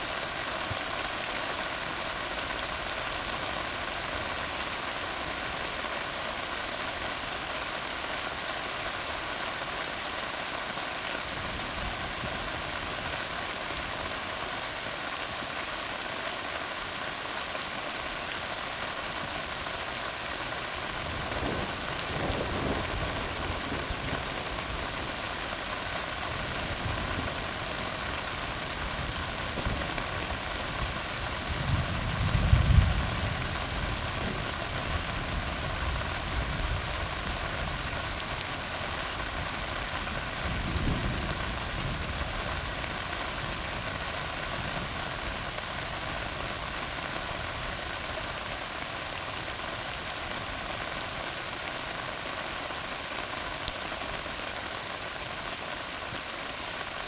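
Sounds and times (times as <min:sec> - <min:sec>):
rain falling on road: 0:00.0 - 0:57.0.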